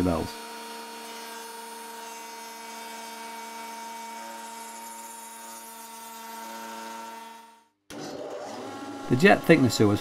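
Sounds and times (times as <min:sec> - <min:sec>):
router whining: 0:00.0 - 0:10.0.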